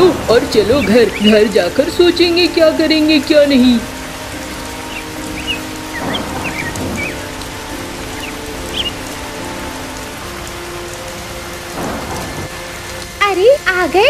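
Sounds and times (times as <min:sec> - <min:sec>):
heavy rain: 0:00.0 - 0:14.0
soft background music: 0:00.0 - 0:14.0.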